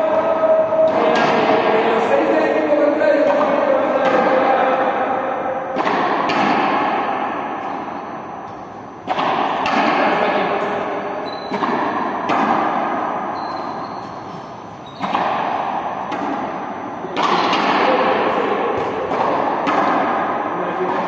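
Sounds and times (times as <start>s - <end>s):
balls thudding in echoing hall: 0.0s - 21.0s.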